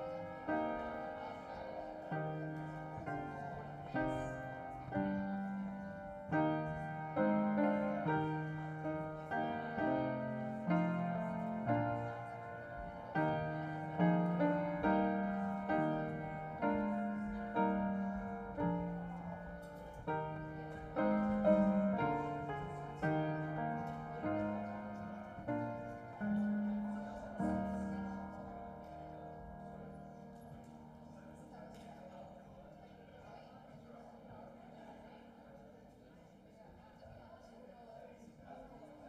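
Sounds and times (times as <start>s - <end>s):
gentle solo piano: 0.0s - 34.7s.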